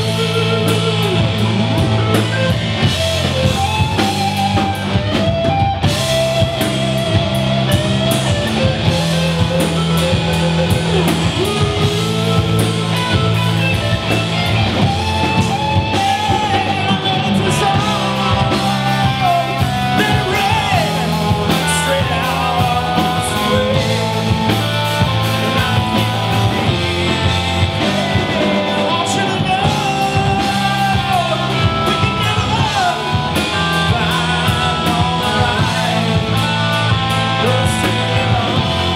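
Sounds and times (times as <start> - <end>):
drum kit: 0.0 - 38.9
electric bass: 0.0 - 38.9
electric guitars: 0.0 - 38.9
man singing lead: 0.0 - 38.9.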